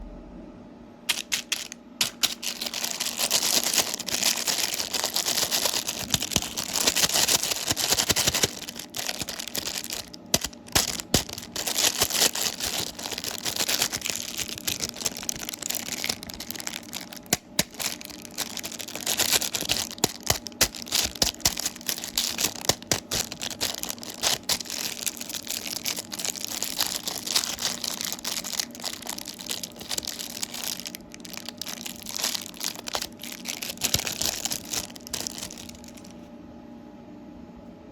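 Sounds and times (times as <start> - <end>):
plastic wrappers crinkling: 1.1 - 36.2.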